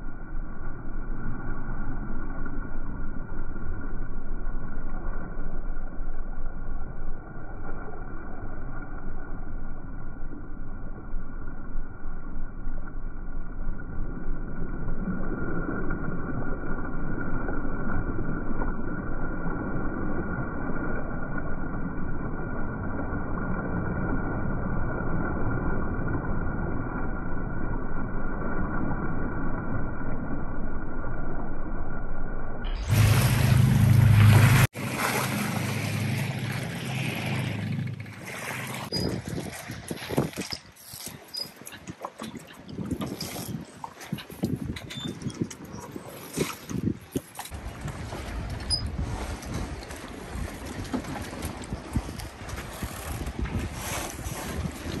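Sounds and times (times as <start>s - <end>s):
water rushing along hull: 0.0s - 55.0s.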